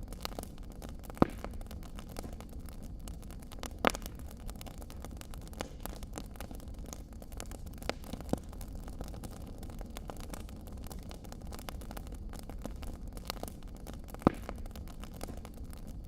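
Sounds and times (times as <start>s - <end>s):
sharp pops from fire: 0.0s - 16.0s
wood fire crackling: 0.0s - 16.0s.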